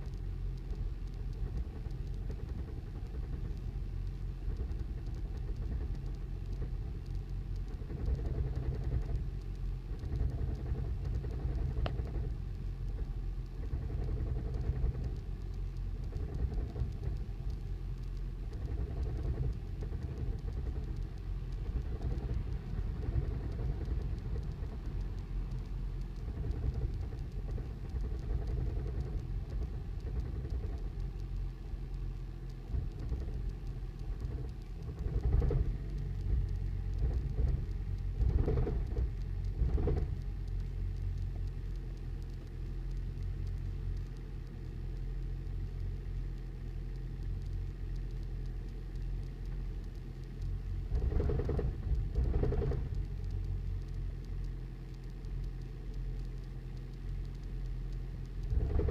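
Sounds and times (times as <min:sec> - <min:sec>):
engine running rough with knocking: 0:00.0 - 0:58.9.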